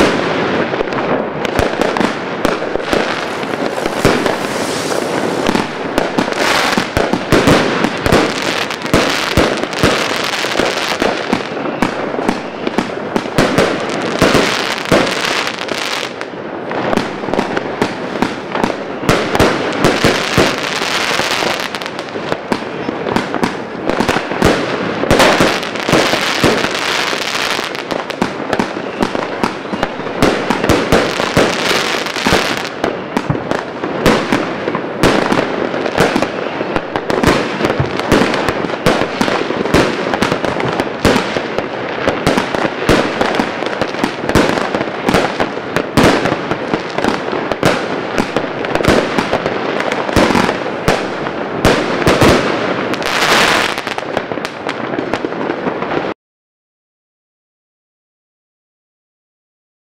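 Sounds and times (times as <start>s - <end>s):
fireworks rapid shots and bursts: 0.0s - 56.2s.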